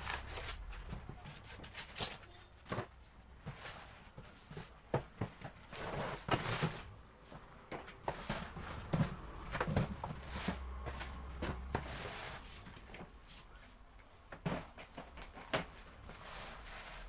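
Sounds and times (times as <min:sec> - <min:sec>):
plastic wrapping rustling: 0:00.0 - 0:17.0.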